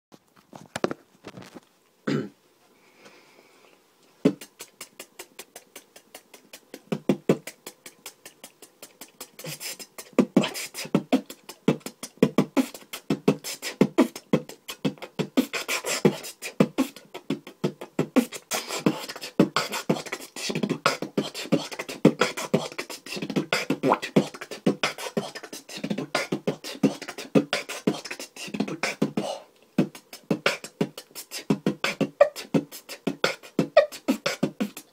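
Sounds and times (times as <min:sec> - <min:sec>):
beatboxing: 0:04.2 - 0:34.9
mouth clicks: 0:04.2 - 0:34.9.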